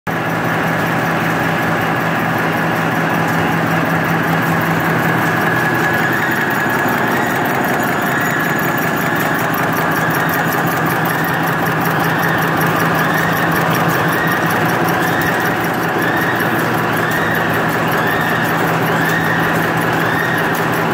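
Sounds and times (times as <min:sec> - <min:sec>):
machine humming and clattering: 0:00.1 - 0:20.9.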